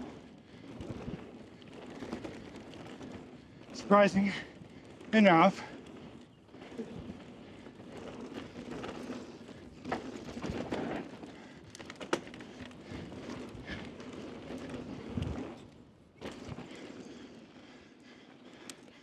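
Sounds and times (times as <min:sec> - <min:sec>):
bike rattling and knocking: 0:00.0 - 0:19.0
bike tyres scrubbing over dirt: 0:00.0 - 0:19.0.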